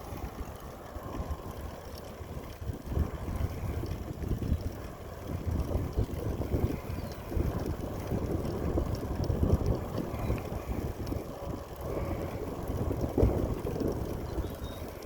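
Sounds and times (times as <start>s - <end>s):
faint ticks: 0.0s - 15.0s
wind buffeting microphone: 0.0s - 15.0s.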